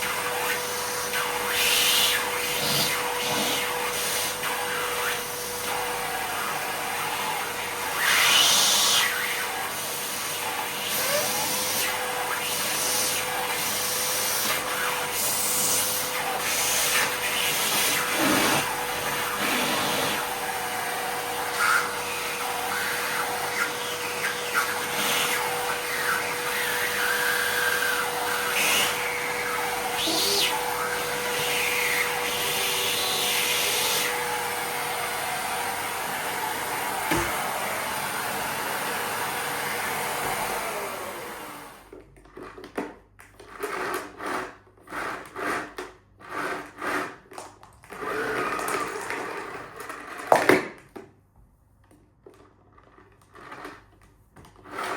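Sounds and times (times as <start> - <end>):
vacuum cleaner running: 0.0 - 42.6, 47.9 - 50.6.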